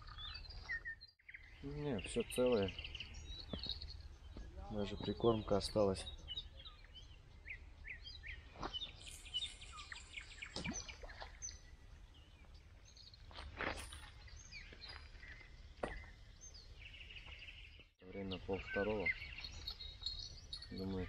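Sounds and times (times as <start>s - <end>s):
birds chirping and whistling: 0.0s - 21.0s.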